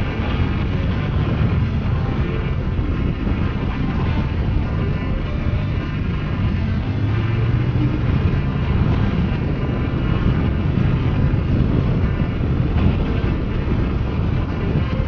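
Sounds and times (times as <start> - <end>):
motorcycle engine rumbling: 0.0 - 15.0
wind noise on microphone: 0.0 - 15.0.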